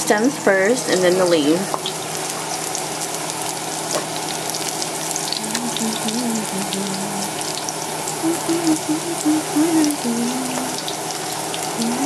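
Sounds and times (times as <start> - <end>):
garlic sizzling in hot oil: 0.1 - 12.0.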